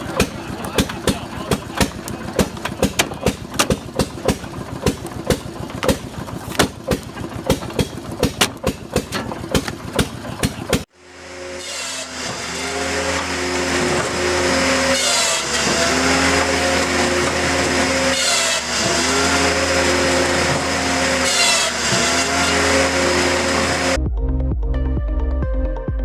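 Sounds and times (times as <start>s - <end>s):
wood-cutting machine running: 0.0s - 24.0s.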